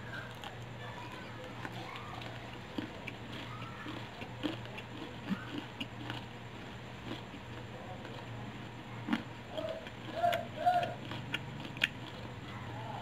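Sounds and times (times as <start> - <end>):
person chewing crunchy food: 0.0 - 13.0
steady low hum: 0.0 - 13.0.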